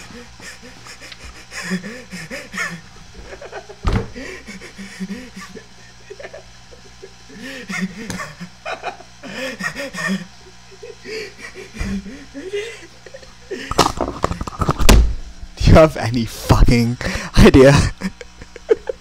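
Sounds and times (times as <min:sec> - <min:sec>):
man laughing and giggling: 0:00.0 - 0:14.5, 0:17.0 - 0:19.0.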